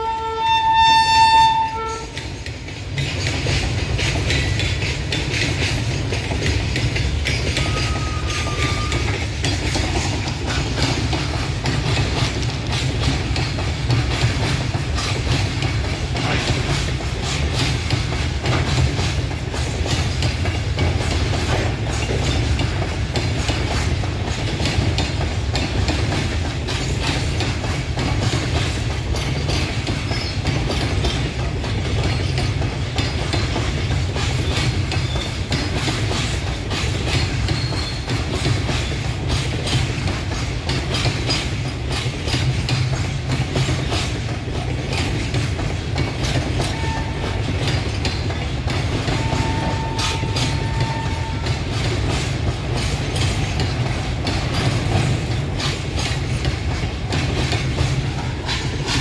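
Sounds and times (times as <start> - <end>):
freight wagons clattering over rail joints: 0.7 - 59.0.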